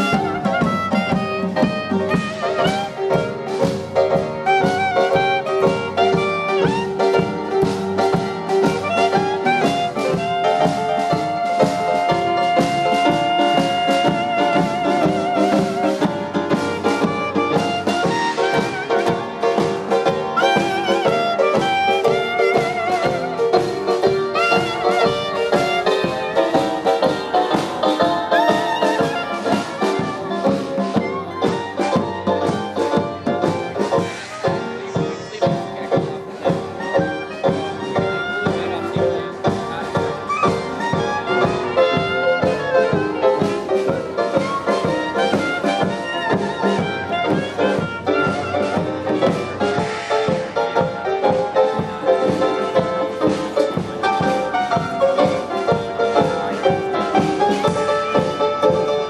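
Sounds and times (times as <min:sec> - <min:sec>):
clarinet lead: 0:00.0 - 0:59.0
drum kit: 0:00.0 - 0:59.0
jazz music with horns: 0:00.0 - 0:59.0
upright bass: 0:00.0 - 0:59.0.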